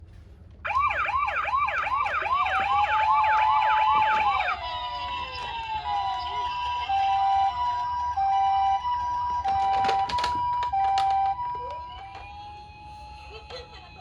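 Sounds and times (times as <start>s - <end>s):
toy electronic siren: 0.7s - 14.0s.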